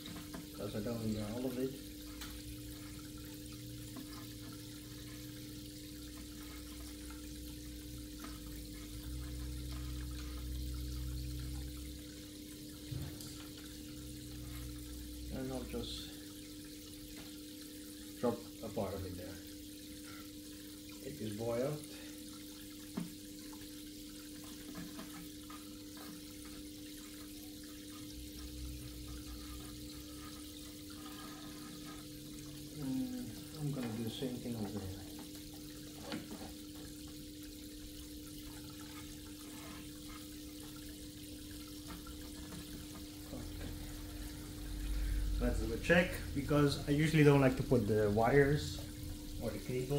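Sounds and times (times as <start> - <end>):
aquarium water trickling: 0.0 - 49.9.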